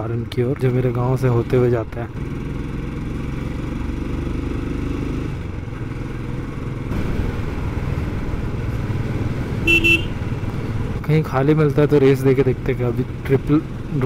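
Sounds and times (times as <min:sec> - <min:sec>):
motorcycle engine running: 0:00.3 - 0:14.0.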